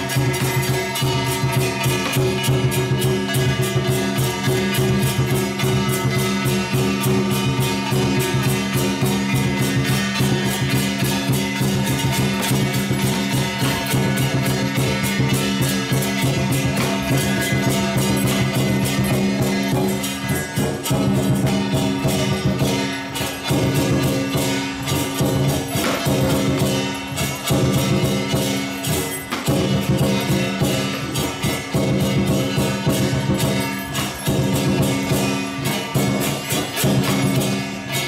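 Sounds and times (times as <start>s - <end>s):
rapid percussion strikes: 0.0s - 38.0s.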